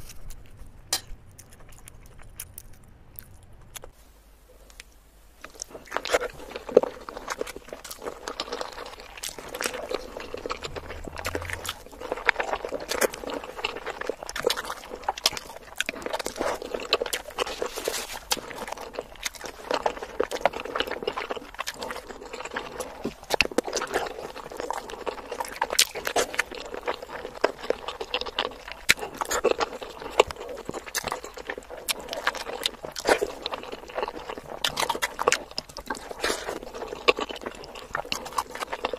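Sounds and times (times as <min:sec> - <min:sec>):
wet mouth chewing: 0:00.0 - 0:04.0, 0:04.7 - 0:38.9.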